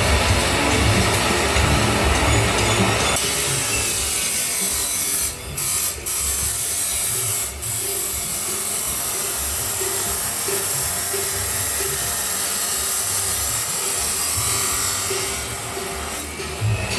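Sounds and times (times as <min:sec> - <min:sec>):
angle grinder cutting metal pipe: 0:00.0 - 0:16.9.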